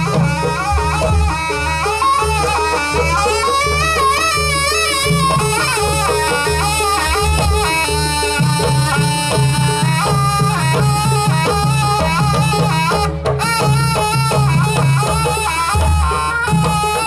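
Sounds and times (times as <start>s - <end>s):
drums: 0.0s - 17.0s
shrill reed pipe melody: 0.0s - 17.0s.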